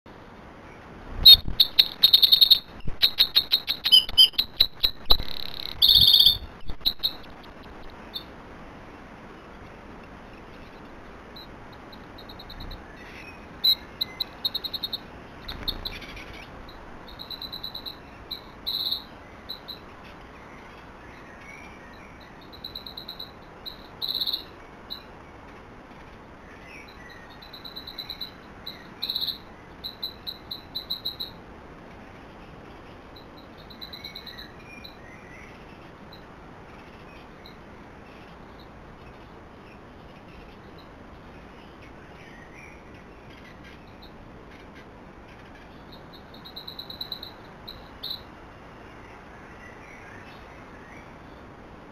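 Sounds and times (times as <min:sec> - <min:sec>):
wren trilling song: 0:00.6 - 0:08.4, 0:10.3 - 0:51.5.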